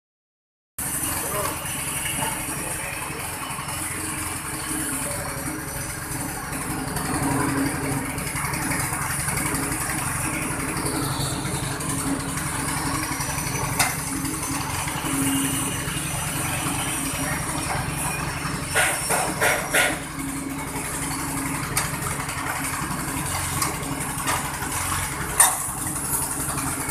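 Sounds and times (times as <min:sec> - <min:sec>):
coconut husk peeling machine running: 0:00.8 - 0:26.9.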